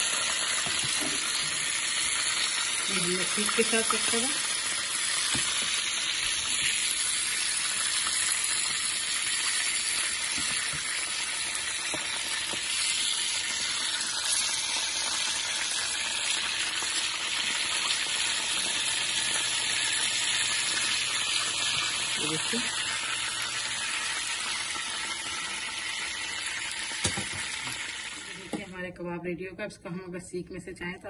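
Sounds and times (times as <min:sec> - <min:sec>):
faint pops of frying: 0:00.0 - 0:28.8
oil sizzling in a frying pan: 0:00.0 - 0:28.8.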